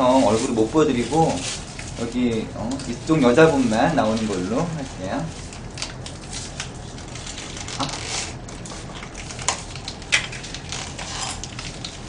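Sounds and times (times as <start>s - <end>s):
paper wrapper rustling and tearing: 0.0s - 12.0s.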